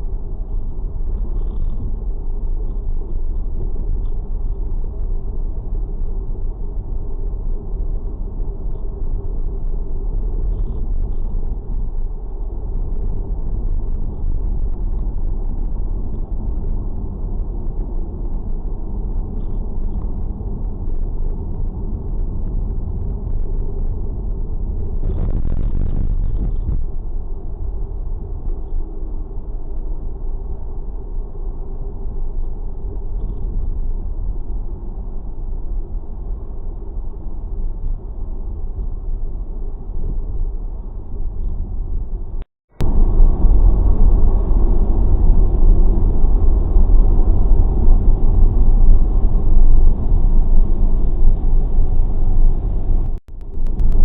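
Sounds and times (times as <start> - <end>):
faint steady hum: 0.0 - 54.0
low rumble of vehicle noise: 0.0 - 54.0.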